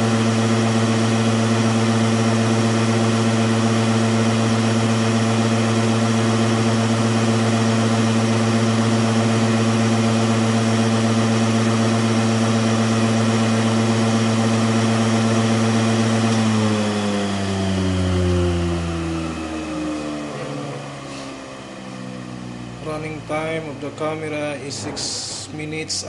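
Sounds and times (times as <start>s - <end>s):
centrifuge spinning with a hum: 0.0s - 26.0s.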